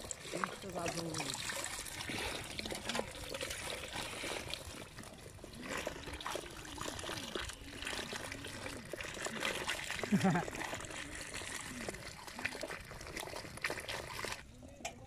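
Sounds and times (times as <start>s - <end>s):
water pouring into basket: 0.0s - 14.5s.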